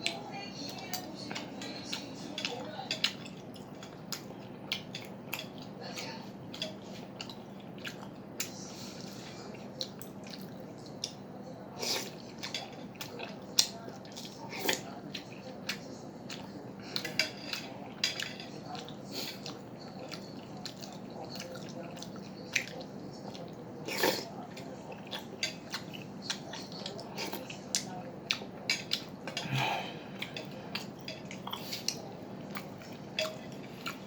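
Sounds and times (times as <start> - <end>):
wet slurping and chewing: 0.0 - 34.0.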